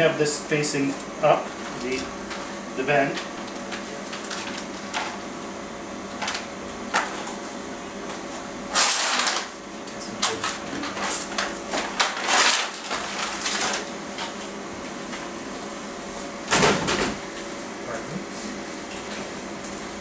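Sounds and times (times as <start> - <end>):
steady equipment hum: 0.0 - 20.0.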